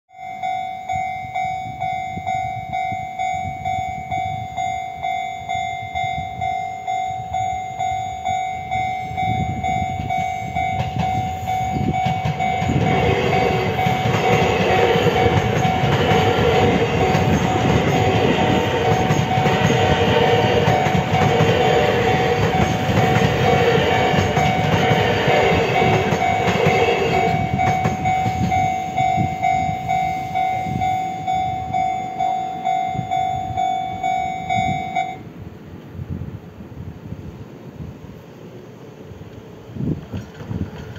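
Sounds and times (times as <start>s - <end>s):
level-crossing warning bell: 0.1s - 35.3s
train wheel and rail noise: 0.1s - 40.9s.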